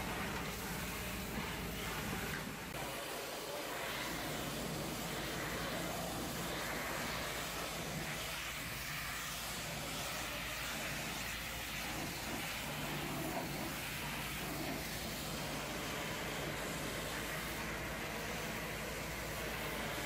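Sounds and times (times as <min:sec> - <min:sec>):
pressure washer jet hissing on metal: 0:00.0 - 0:20.0.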